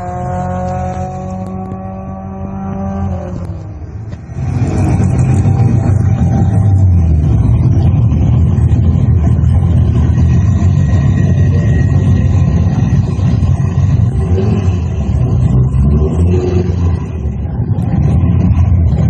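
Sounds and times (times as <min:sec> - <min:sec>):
car engine rough rumble: 0:00.0 - 0:19.0.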